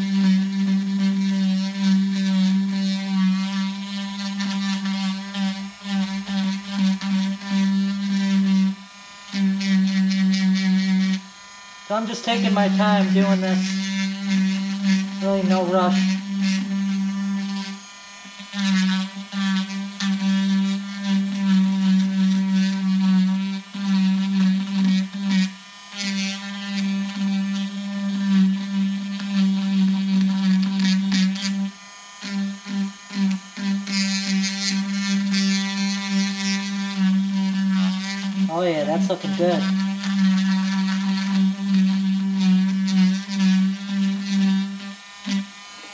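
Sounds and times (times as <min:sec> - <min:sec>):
rotary tool grinding wood: 0:00.0 - 0:45.9.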